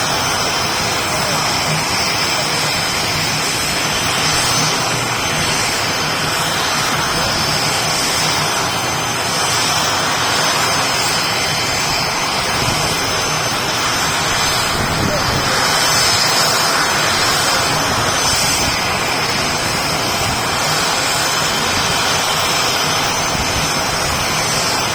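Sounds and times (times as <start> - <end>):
high steady whine: 0.0 - 24.9
turboprop engines droning: 0.0 - 24.9.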